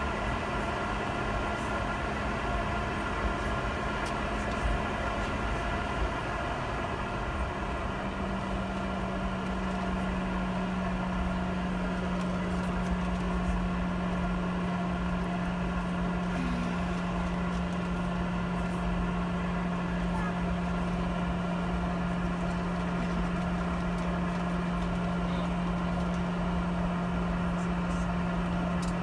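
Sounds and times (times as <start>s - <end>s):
jet cabin engine hum: 0.0s - 29.0s.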